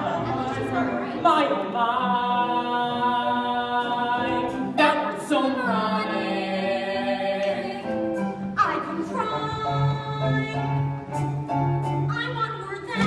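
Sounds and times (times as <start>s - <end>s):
cast singing together: 0.0s - 10.7s.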